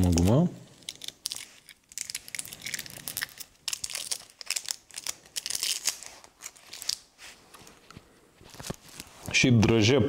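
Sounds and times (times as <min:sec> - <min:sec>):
wrapper crinkling: 0:00.0 - 0:09.3.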